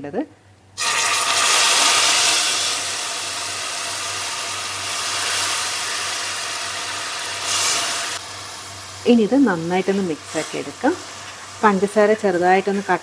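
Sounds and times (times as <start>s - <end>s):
water hissing on hot sugar: 0.8s - 13.0s.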